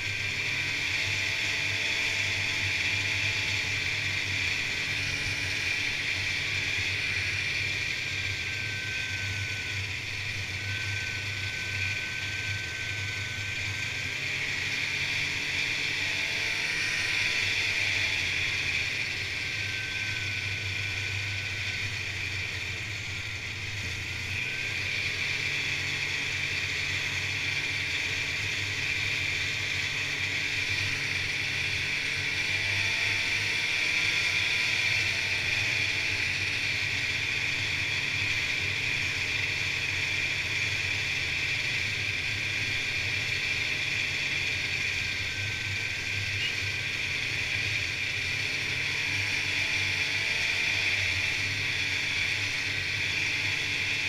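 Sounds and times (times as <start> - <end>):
snowmobile engine and track noise: 0.0 - 54.0.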